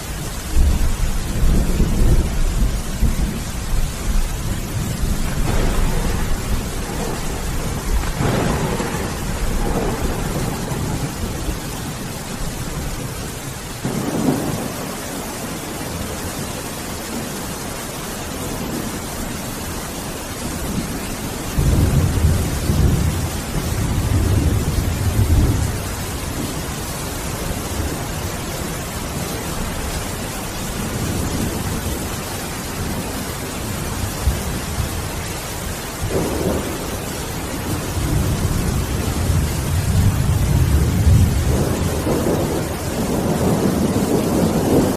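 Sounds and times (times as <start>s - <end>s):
heavy rain: 0.0s - 44.9s
thunder rolling: 0.5s - 15.2s, 20.7s - 32.0s, 32.8s - 44.9s.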